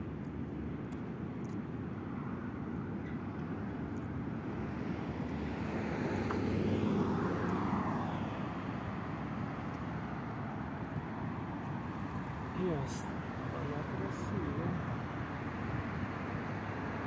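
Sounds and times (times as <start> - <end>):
road traffic rush: 0.0 - 17.0.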